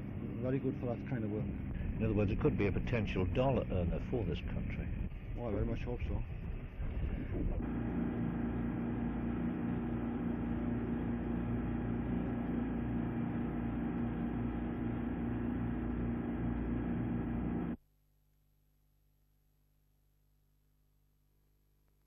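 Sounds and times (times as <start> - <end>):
boat engine drone: 0.0 - 17.8.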